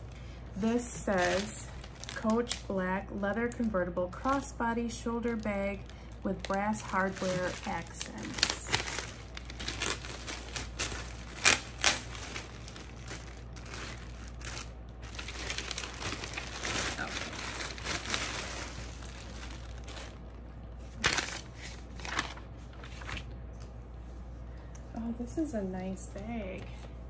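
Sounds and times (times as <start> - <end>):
plastic bag crinkling: 0.0 - 23.3.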